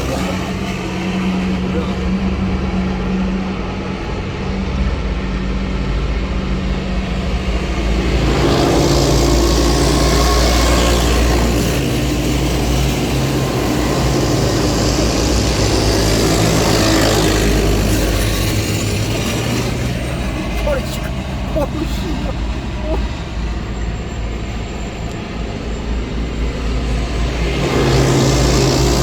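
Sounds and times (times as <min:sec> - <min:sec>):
diesel engines running past: 0:00.0 - 0:29.0.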